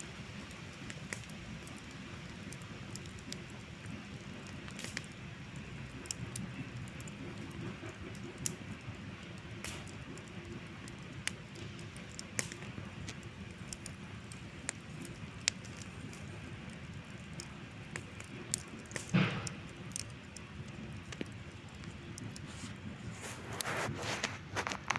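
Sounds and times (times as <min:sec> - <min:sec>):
campfire crackling: 0:00.0 - 0:24.9.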